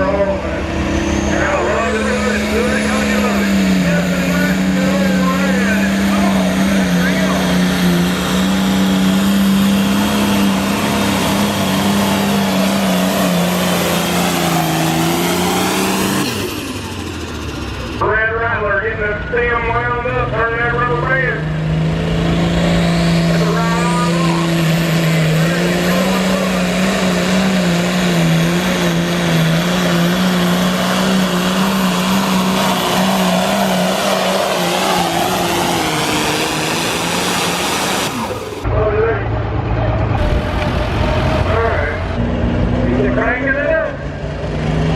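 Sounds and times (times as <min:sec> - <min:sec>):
tractor engine revving high: 0:00.0 - 0:44.9.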